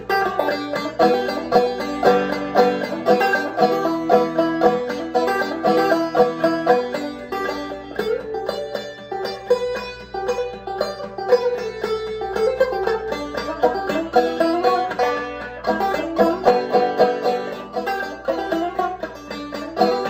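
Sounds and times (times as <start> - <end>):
banjo plucked old-time tune: 0.0 - 20.0.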